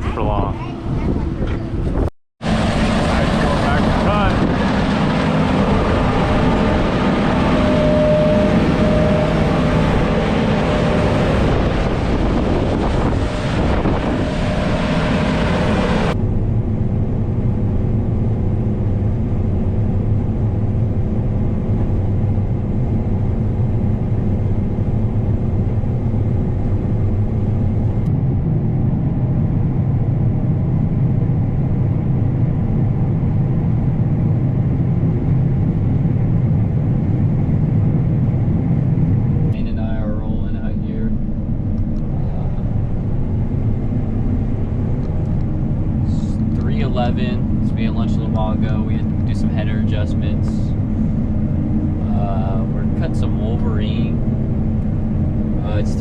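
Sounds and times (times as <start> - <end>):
combine harvester engine running: 0.0 - 56.0
deep even hum: 0.0 - 56.0.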